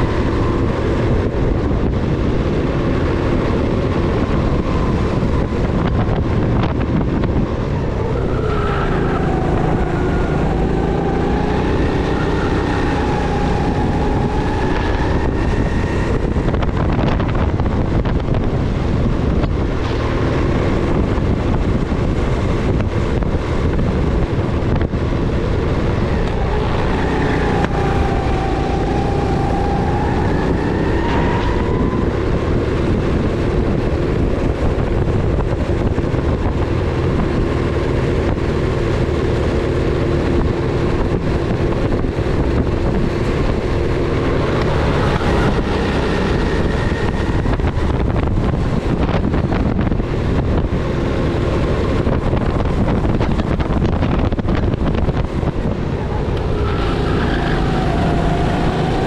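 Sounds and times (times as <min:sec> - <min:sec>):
go-kart engine revving: 0:00.0 - 0:59.0
wind buffeting microphone: 0:00.0 - 0:59.0.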